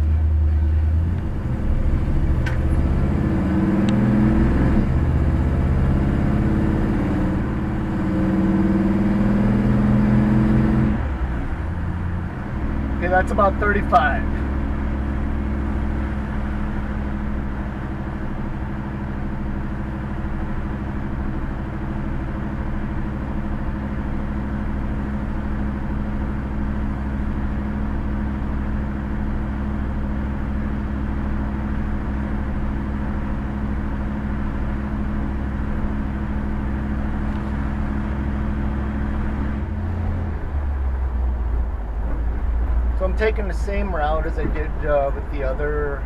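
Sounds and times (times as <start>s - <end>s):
car engine drone from cabin: 0.0s - 46.0s.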